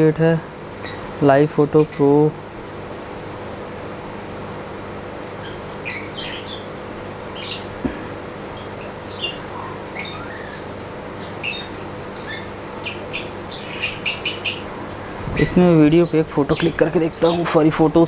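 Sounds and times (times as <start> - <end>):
steady low hum: 0.0 - 18.0
small birds chirping: 0.7 - 3.5, 5.3 - 18.0.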